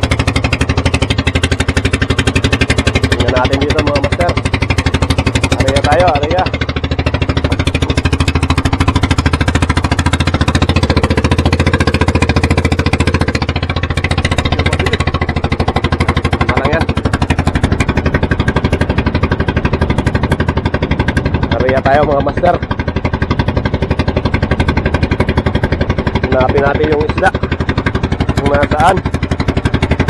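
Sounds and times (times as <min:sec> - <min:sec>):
boat engine chugging: 0:00.0 - 0:30.0.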